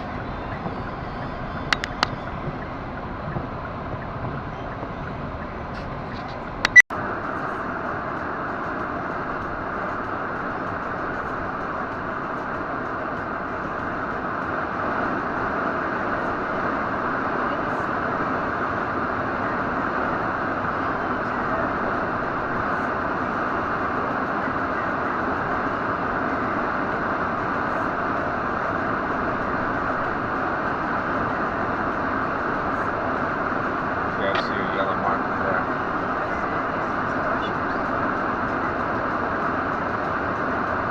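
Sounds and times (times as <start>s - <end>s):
wind and road noise in car: 0.0s - 40.9s.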